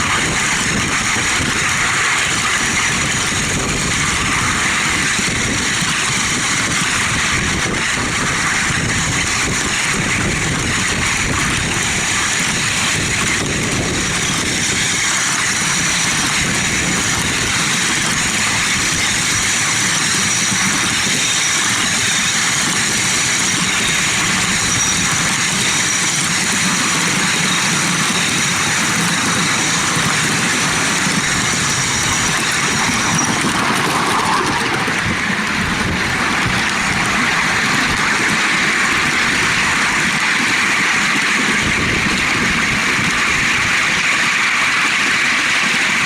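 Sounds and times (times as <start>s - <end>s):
miniature train running on track: 0.0s - 46.0s.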